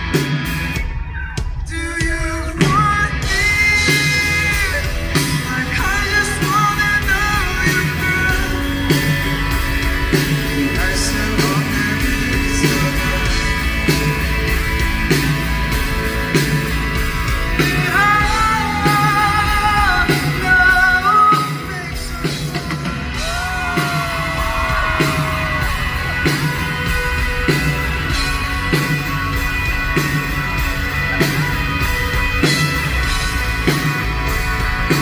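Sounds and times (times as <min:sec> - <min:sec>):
electric guitars: 0:00.0 - 0:35.0
steady drum beat: 0:00.0 - 0:35.0.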